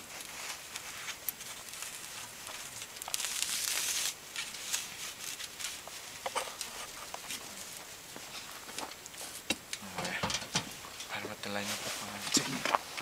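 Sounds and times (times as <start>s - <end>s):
nylon net rustling: 0.0s - 10.0s, 10.8s - 13.0s.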